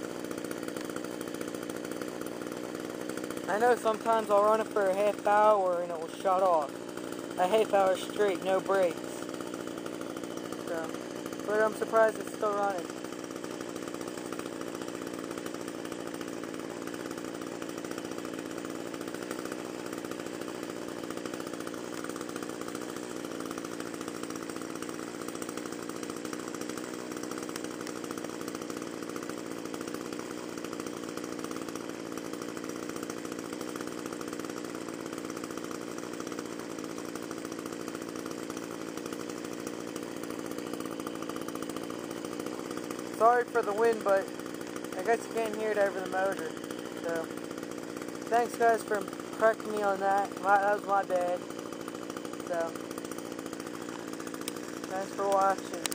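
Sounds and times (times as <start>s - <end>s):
string trimmer engine idling: 0.0s - 55.9s.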